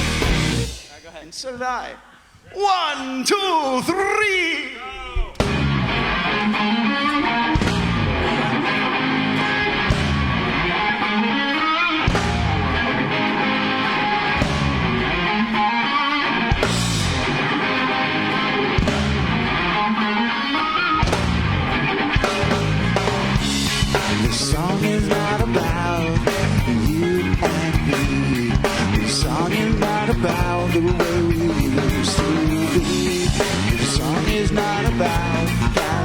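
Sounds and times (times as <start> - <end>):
electric guitar: 0.0 - 0.9, 5.3 - 36.0
rock band playing: 0.0 - 1.0, 5.4 - 36.0.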